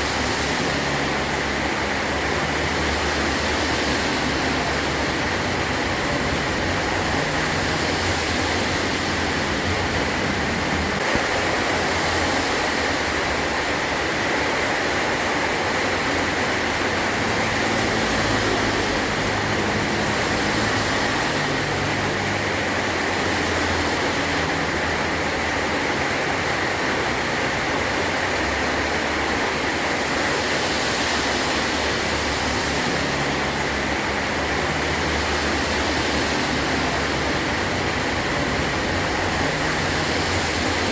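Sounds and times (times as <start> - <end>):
heavy rain on a metal roof: 0.0 - 40.9.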